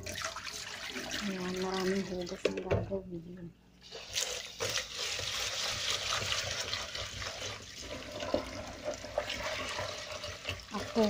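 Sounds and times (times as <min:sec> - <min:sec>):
tap water running into bowl: 0:00.0 - 0:02.8, 0:03.8 - 0:11.0.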